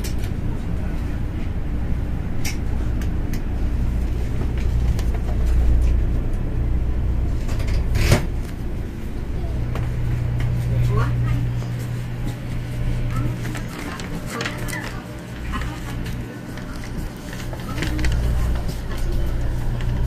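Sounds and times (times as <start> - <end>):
train interior low rumble: 0.0 - 20.0.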